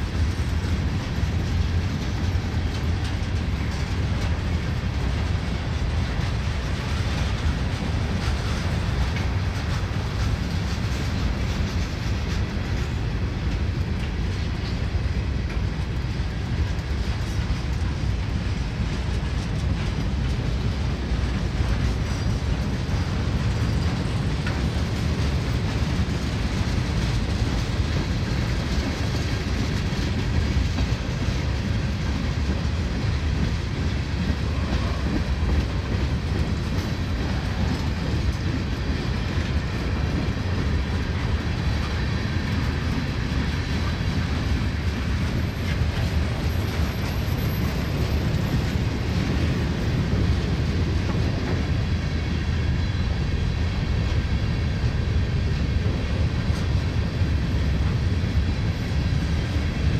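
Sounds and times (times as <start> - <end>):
clacking over rail joints: 0.0 - 52.3
freight train wheels rumbling: 0.0 - 59.9.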